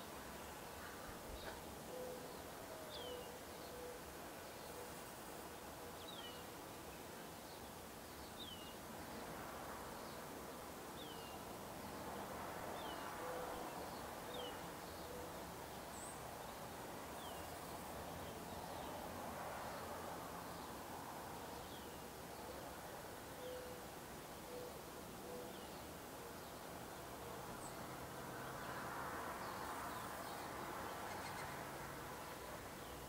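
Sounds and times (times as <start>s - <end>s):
background hiss: 0.0s - 33.0s.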